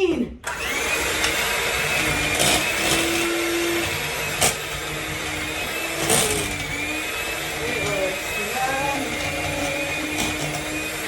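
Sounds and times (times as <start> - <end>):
electric mixer whirring: 0.4 - 11.0.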